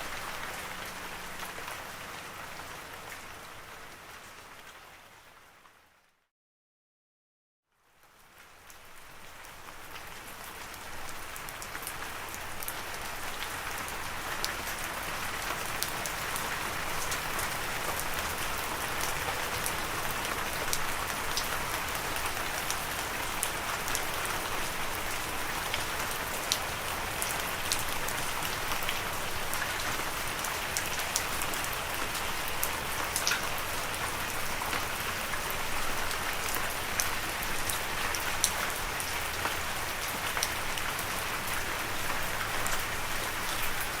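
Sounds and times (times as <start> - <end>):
steady rain falling: 0.0 - 6.2, 7.7 - 44.0.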